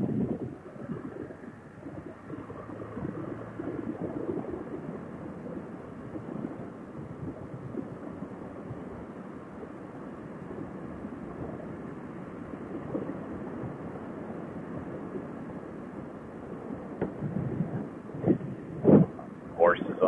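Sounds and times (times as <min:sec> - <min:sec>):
muffled wind rush while riding: 0:00.0 - 0:20.0.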